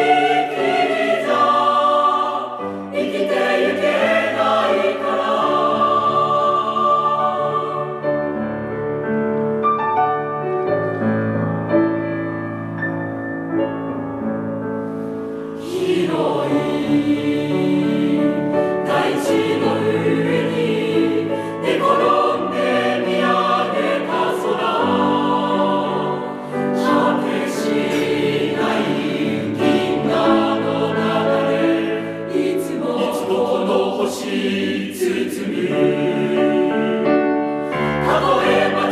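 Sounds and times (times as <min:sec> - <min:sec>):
choir singing held chords: 0:00.0 - 0:08.6, 0:15.5 - 0:38.9.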